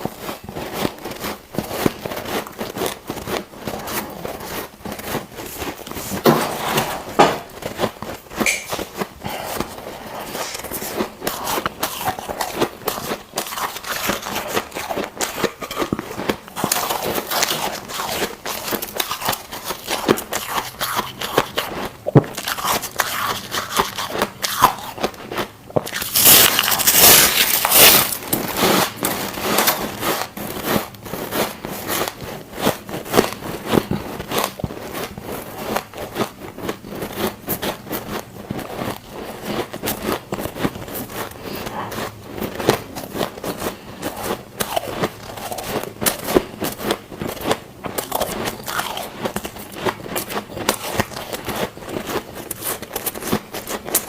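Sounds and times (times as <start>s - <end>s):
ice cubes crunching being chewed: 0.0s - 6.7s, 7.4s - 54.0s.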